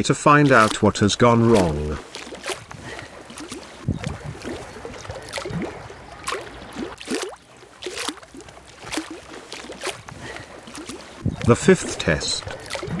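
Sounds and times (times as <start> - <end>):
water lapping and gurgling: 0.0 - 13.0.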